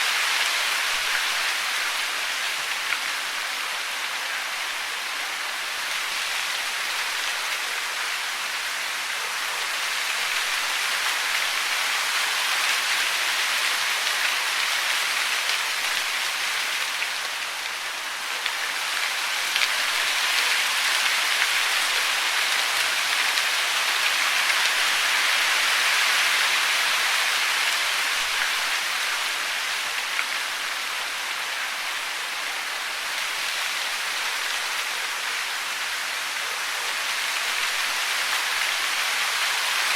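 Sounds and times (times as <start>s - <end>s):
falling water hiss: 0.0s - 39.9s.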